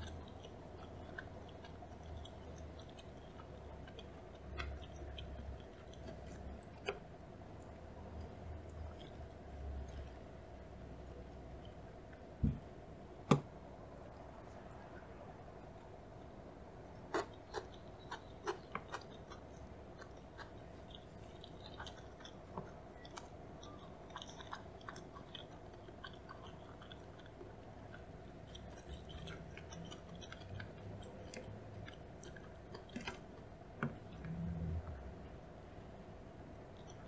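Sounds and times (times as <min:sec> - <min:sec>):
close chewing with crunches: 0:00.0 - 0:12.3, 0:15.7 - 0:34.5, 0:36.7 - 0:37.0
faint steady hum: 0:00.0 - 0:37.0.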